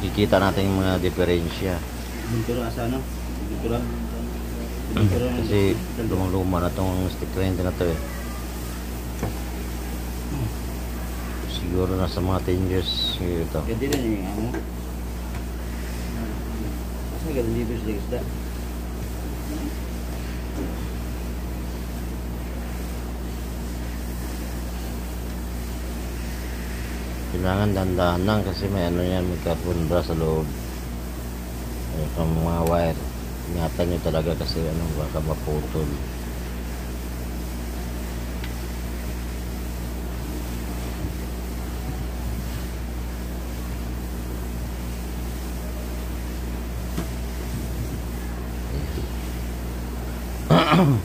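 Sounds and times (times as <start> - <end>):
constant noise bed: 0.0 - 51.0
low mechanical hum: 0.0 - 51.0.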